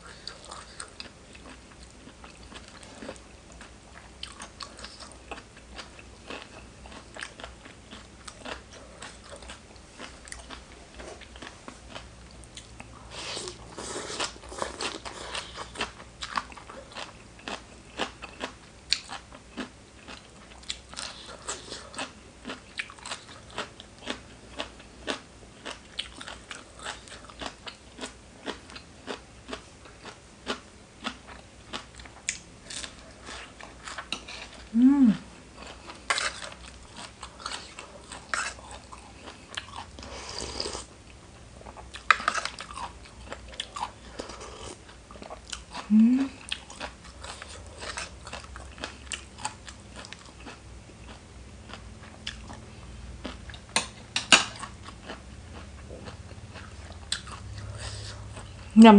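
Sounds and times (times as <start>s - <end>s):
person chewing crisp food: 0.0s - 58.7s.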